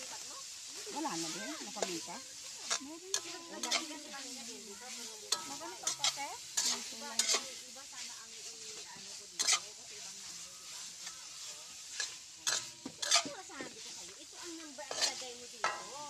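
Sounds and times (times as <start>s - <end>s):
meat sizzling in a wok: 0.0s - 16.0s
metal spatula scraping pan: 0.0s - 16.0s.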